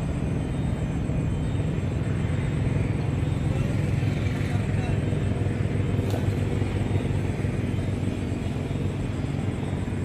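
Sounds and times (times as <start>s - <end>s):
distant engine rumble: 0.0s - 10.0s.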